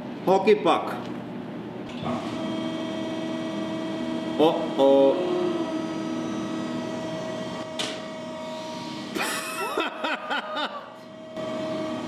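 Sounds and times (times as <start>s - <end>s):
hydraulic machine humming: 1.9s - 12.0s.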